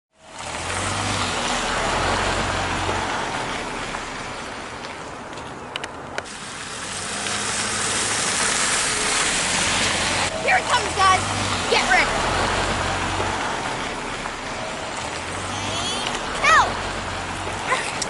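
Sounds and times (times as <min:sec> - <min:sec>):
low engine hum: 0:00.2 - 0:18.0.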